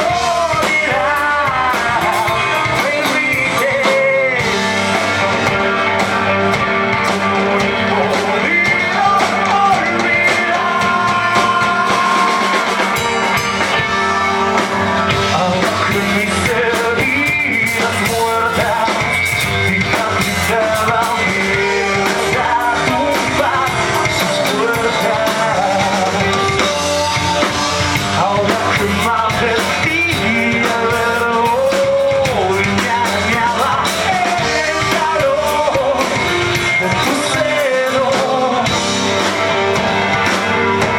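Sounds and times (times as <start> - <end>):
person singing: 0.0 - 40.9
rock band playing live: 0.0 - 40.9.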